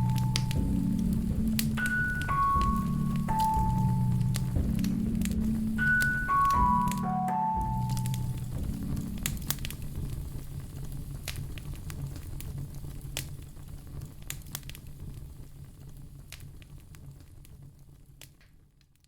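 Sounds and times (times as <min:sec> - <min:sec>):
sharp pops of fire: 0:00.0 - 0:07.0, 0:07.7 - 0:19.0
low rumble of flames: 0:00.0 - 0:19.0
wood fire crackling: 0:00.0 - 0:19.0.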